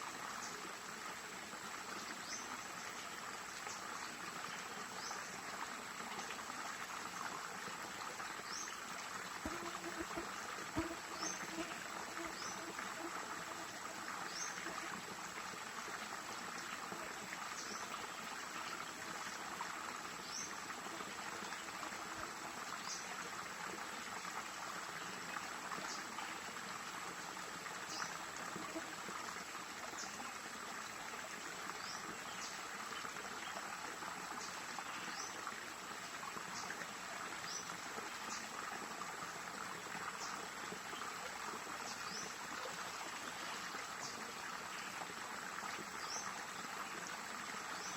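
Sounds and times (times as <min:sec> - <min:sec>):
stream flowing over rocks: 0:00.0 - 0:47.9.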